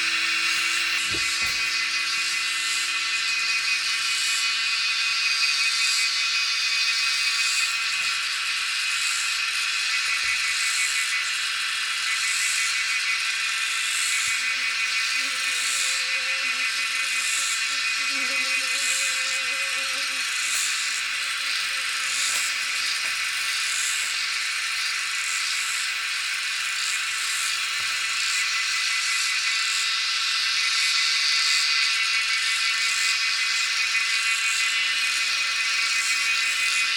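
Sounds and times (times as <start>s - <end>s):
insects buzzing: 0.0s - 36.9s
pulsing insect chirp: 0.0s - 36.9s.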